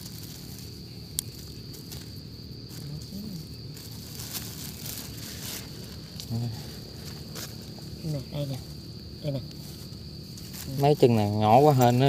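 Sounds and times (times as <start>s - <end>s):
insects droning: 0.0s - 12.0s
soft rustles: 0.0s - 12.0s.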